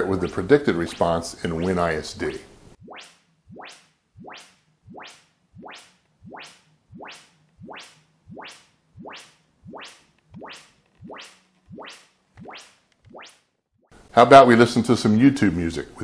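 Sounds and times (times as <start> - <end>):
rising sine sweep tones: 0.3 - 13.5.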